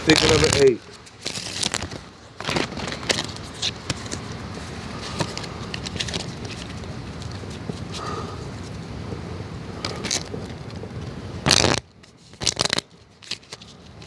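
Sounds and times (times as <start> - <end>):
playing cards clicking and rustling: 0.0 - 14.0
steady hiss: 0.0 - 14.0.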